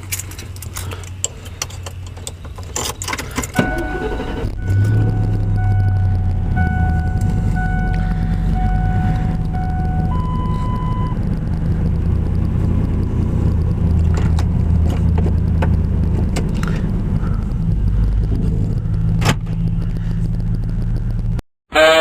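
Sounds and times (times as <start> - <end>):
car engine rumble: 0.0 - 21.4
road noise: 0.0 - 21.9.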